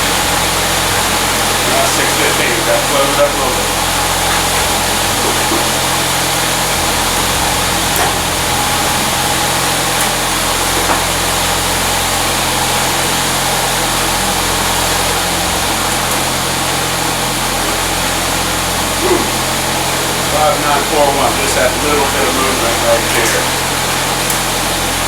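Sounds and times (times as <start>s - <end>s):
furnace blower running: 0.0s - 25.0s.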